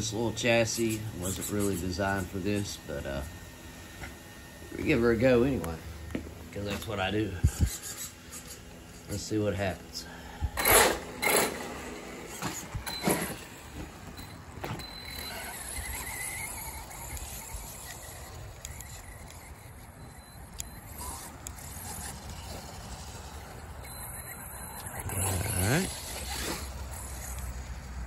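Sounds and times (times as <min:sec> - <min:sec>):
electric motor whine: 0:00.0 - 0:28.0
rc truck motor bursts: 0:00.0 - 0:28.0.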